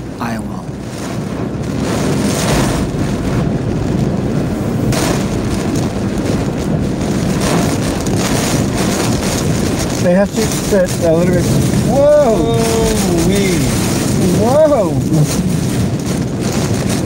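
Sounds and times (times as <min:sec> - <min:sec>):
driving rain: 0:00.0 - 0:17.0
hurricane wind: 0:00.0 - 0:17.0.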